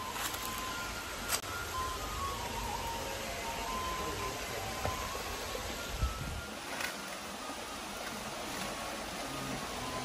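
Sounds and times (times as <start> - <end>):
stream water over rocks: 0.0 - 10.0.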